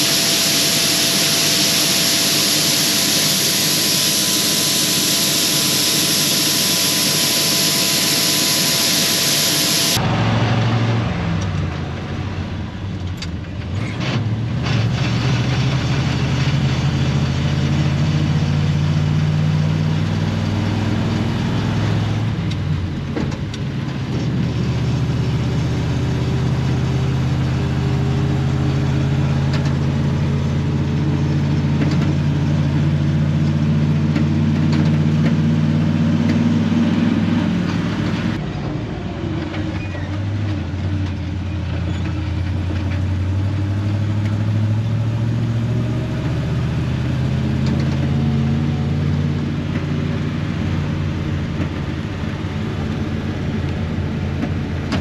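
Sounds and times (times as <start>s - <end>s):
truck engine accelerating: 0.0s - 55.0s.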